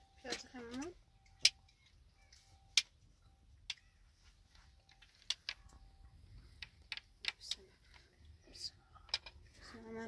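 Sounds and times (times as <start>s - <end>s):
faint steady tone: 0.0s - 10.0s.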